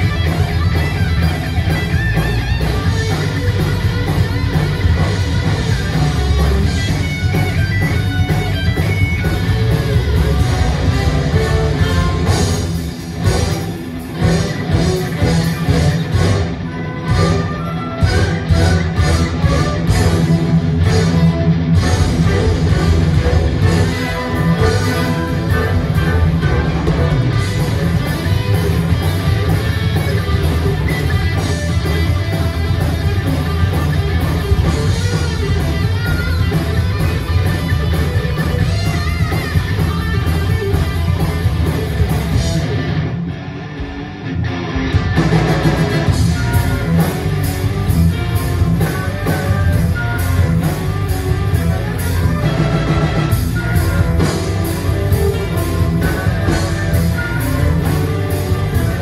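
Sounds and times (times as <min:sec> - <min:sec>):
heavy metal band playing live: 0:00.0 - 0:59.0.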